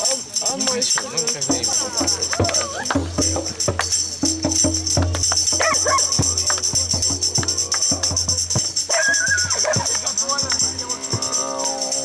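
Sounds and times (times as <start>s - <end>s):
scattered voices: 0.0s - 12.0s
tambourine jingles shaken: 0.0s - 12.0s.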